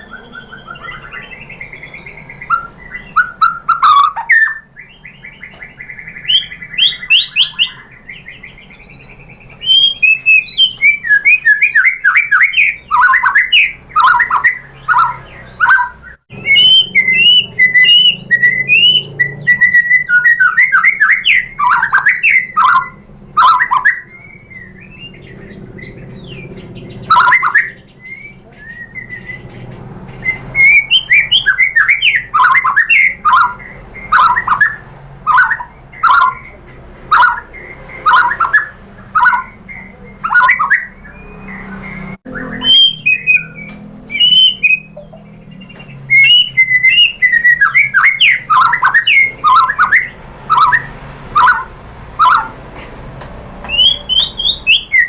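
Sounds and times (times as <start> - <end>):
bird singing whistled notes: 0.0 - 52.5, 53.7 - 55.0.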